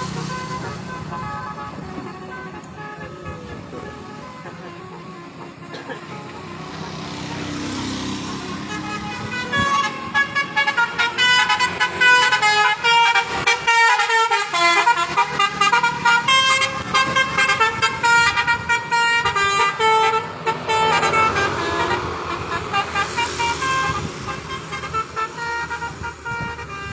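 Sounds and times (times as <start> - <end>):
bus passing road noise: 0.0 - 26.9
musical bus horn melody: 0.0 - 26.9.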